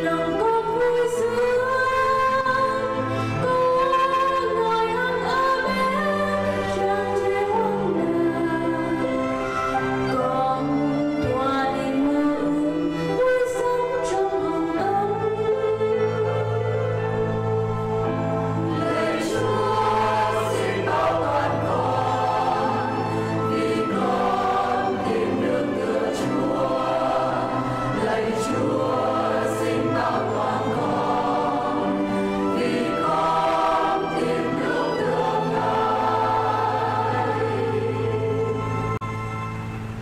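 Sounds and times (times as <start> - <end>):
church choir singing: 0.0 - 13.4, 14.0 - 39.0
keyboard: 0.0 - 40.0
violin: 0.0 - 40.0.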